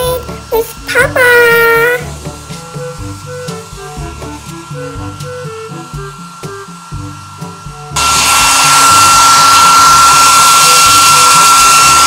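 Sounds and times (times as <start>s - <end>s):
background music: 0.0s - 12.0s
hair dryer blowing: 0.0s - 12.0s.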